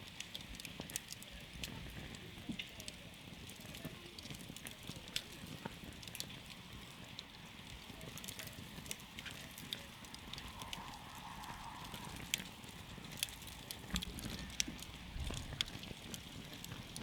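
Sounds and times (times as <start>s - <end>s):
campfire crackling and popping: 0.0s - 17.0s
low hiss of burning: 0.0s - 17.0s.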